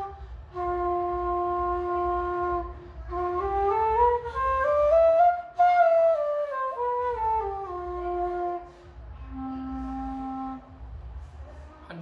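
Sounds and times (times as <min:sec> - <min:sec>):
bamboo flute playing: 0:00.0 - 0:11.0.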